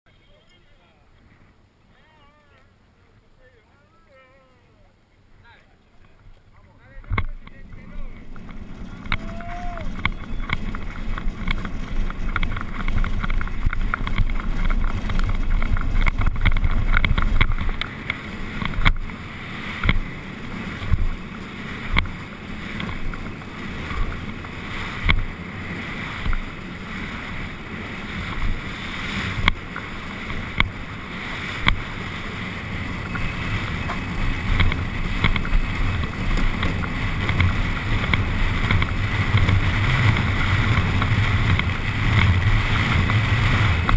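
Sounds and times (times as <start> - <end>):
hard wheels rumbling on asphalt: 0.1 - 43.9
cart body rattling: 7.0 - 43.9.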